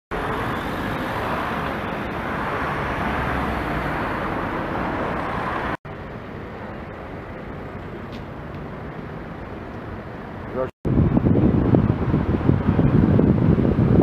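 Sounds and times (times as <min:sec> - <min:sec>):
road traffic noise: 0:00.1 - 0:14.0.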